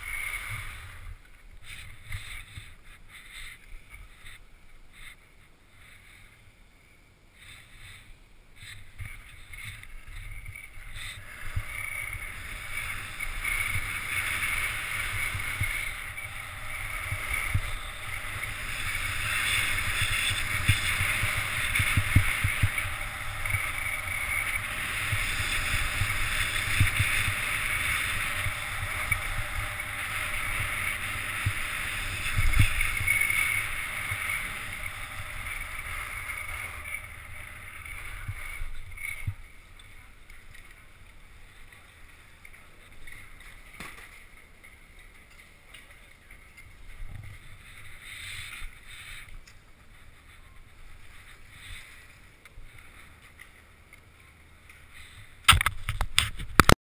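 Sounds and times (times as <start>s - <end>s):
skis scraping over snow: 0.0s - 56.7s.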